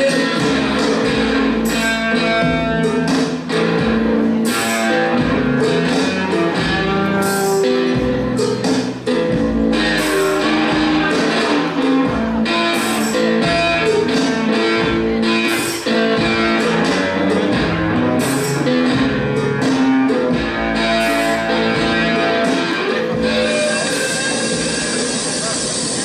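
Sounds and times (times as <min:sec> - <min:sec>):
guitar music: 0:00.0 - 0:26.0.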